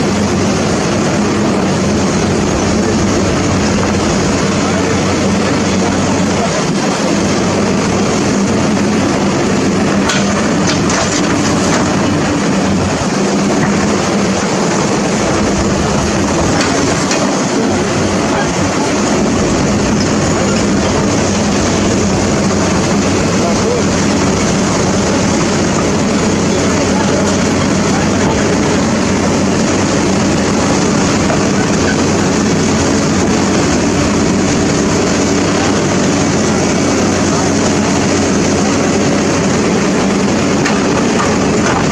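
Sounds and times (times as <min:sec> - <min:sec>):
heavy engine running steadily: 0:00.0 - 0:41.9
loud even rush of noise: 0:00.0 - 0:41.9.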